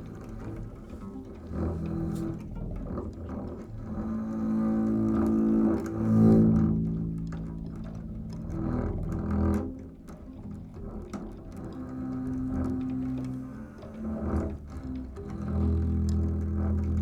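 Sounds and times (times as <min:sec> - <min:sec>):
low bowed strings: 0:00.0 - 0:17.0.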